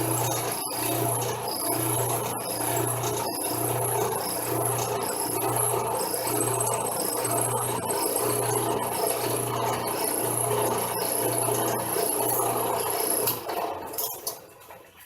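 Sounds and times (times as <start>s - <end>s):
drill bit grating metal: 0.0s - 13.4s
drill press humming: 0.0s - 14.2s.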